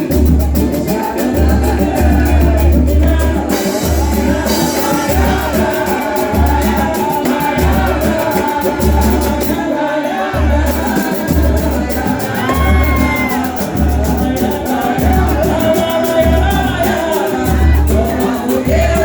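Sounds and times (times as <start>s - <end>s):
person singing: 0.0s - 19.0s
samba band playing: 0.0s - 19.0s.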